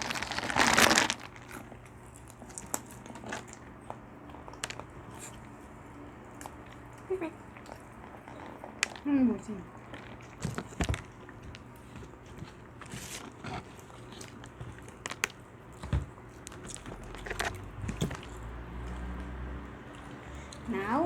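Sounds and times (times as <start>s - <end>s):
small clicks and crunches: 0.0s - 5.5s, 6.3s - 9.1s, 9.8s - 19.1s
chewing and biting food: 0.0s - 20.7s.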